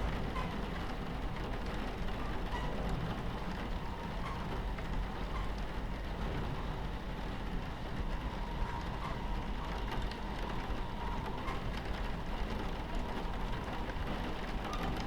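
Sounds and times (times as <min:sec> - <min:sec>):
rain against window: 0:00.0 - 0:15.0
train running on tracks: 0:00.0 - 0:15.0.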